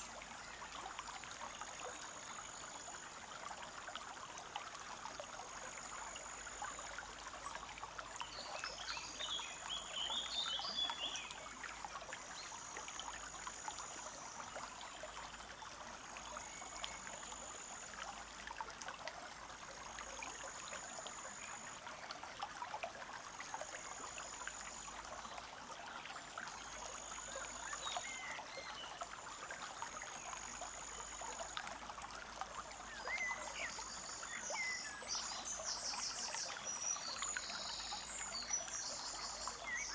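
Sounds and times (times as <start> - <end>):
stream trickling and bubbling: 0.0 - 39.9.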